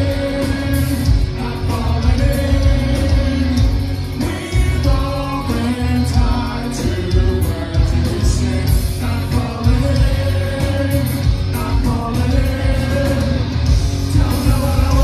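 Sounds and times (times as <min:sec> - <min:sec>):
bass guitar: 0:00.0 - 0:15.0
drums: 0:00.0 - 0:15.0
electric guitars: 0:00.0 - 0:15.0
lead vocal singing: 0:00.0 - 0:15.0.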